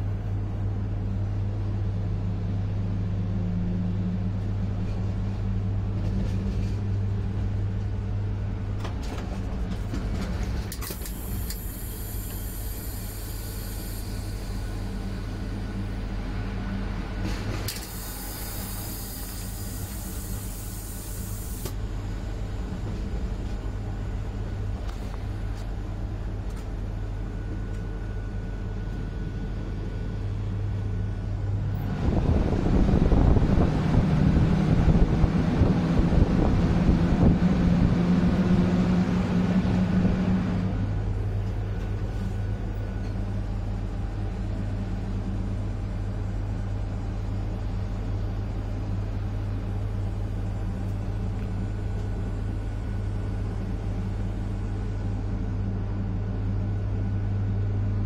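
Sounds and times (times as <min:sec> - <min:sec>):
train interior low hum: 0:00.0 - 0:58.0
rushing noise with low drone: 0:08.8 - 0:55.9.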